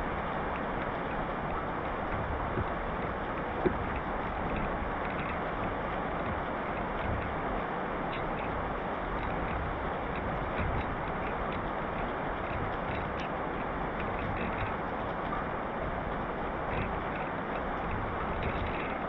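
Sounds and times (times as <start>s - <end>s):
heavy rain: 0.0s - 19.0s
rain drop taps: 0.0s - 19.0s.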